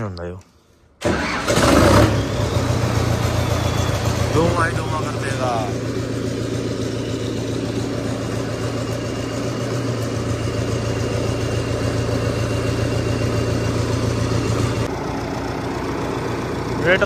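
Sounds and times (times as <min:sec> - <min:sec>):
tractor diesel engine running: 0:01.0 - 0:17.0.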